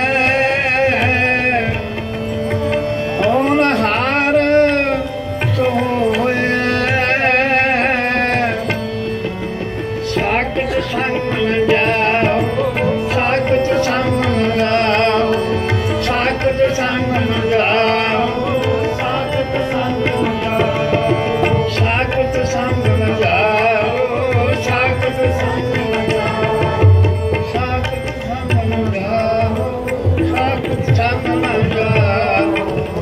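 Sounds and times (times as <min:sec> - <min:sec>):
man singing a hymn: 0:00.0 - 0:01.9, 0:03.2 - 0:08.9, 0:10.1 - 0:33.0
harmonium: 0:00.0 - 0:33.0
tabla drumming: 0:00.0 - 0:33.0.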